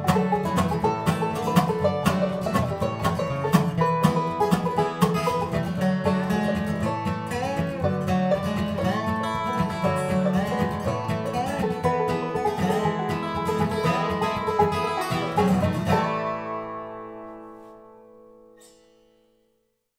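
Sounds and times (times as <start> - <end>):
banjo: 0.0 - 18.7
acoustic guitar: 0.0 - 19.7
resonator guitar: 0.0 - 19.7.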